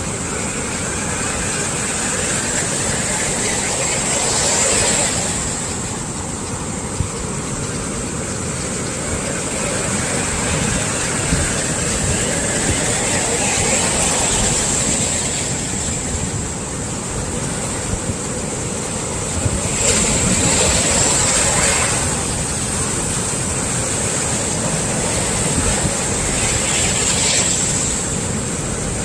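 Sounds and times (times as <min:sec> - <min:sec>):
sea waves washing onto shore: 0:00.0 - 0:29.0
wave breaking: 0:00.0 - 0:29.0.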